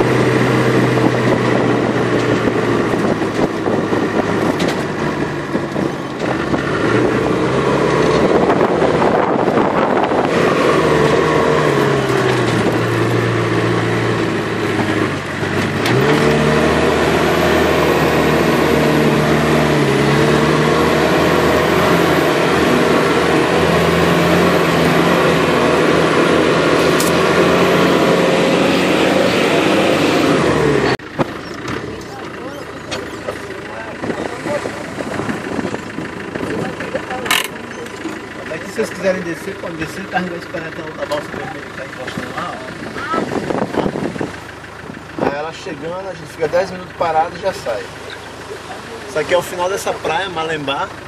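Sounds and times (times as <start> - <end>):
dune buggy engine running: 0.0 - 51.0.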